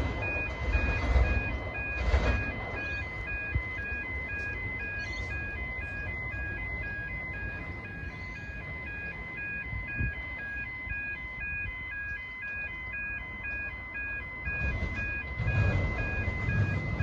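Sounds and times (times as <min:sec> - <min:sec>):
level crossing bells ringing: 0:00.0 - 0:17.0
train rumble: 0:00.0 - 0:17.0.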